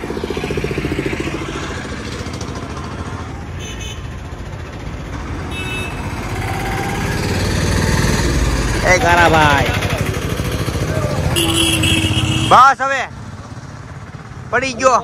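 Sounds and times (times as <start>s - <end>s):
auto-rickshaw engines running: 0.0s - 15.0s
road traffic passing: 0.0s - 15.0s.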